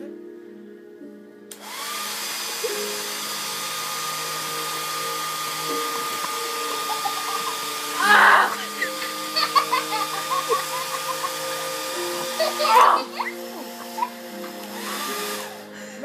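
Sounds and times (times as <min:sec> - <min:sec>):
blow dryer blowing: 0:01.5 - 0:15.9.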